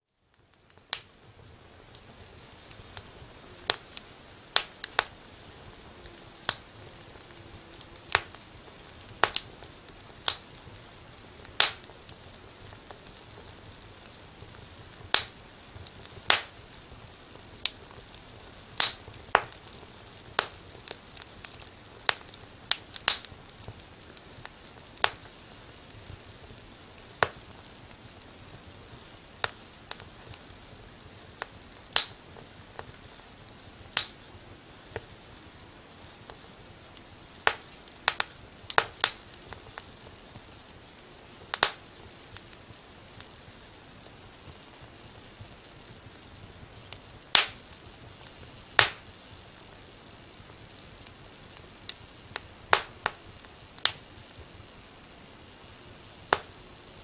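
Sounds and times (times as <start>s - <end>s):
fire crackling: 0.1s - 57.0s.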